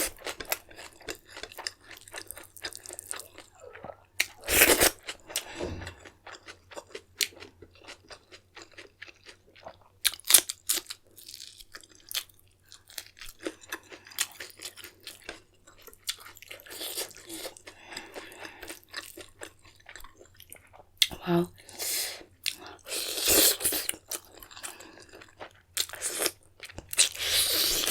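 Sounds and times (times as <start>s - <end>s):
chewing crunchy food: 0.0s - 27.9s.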